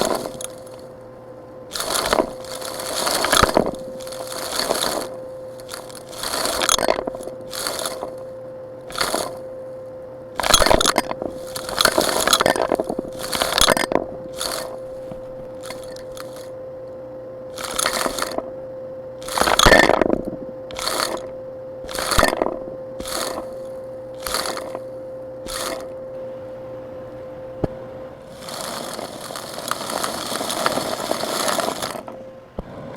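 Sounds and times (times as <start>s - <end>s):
tool crushing and scraping rock: 0.0s - 1.0s, 1.7s - 9.5s, 10.4s - 16.5s, 17.5s - 18.5s, 19.2s - 26.0s, 28.3s - 32.2s
faint hum: 0.0s - 32.9s.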